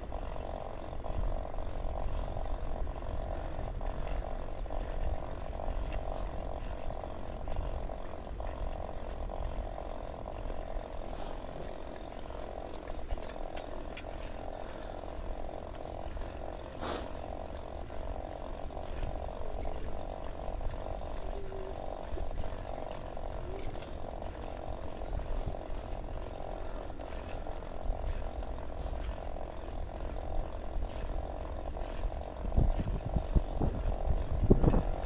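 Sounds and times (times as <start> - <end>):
bicycle whirring: 0.0 - 35.0
wind rumble on microphone: 0.0 - 35.0.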